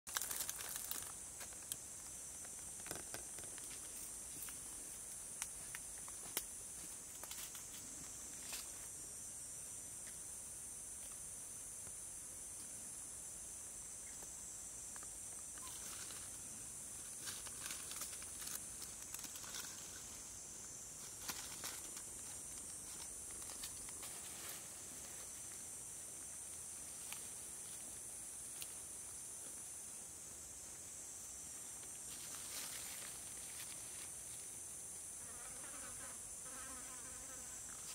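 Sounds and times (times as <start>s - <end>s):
high-pitched insect chorus: 0.1s - 37.9s.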